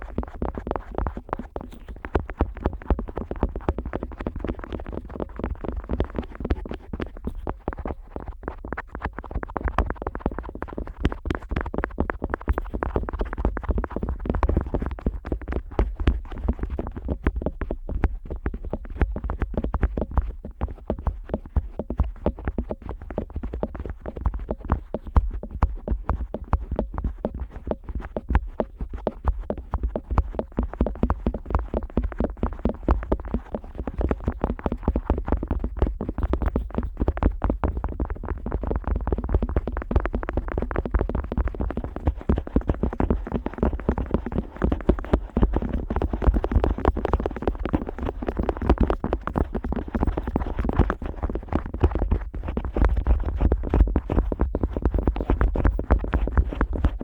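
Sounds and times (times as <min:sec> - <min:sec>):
scratchy scraping on microphone: 0:00.0 - 0:57.0.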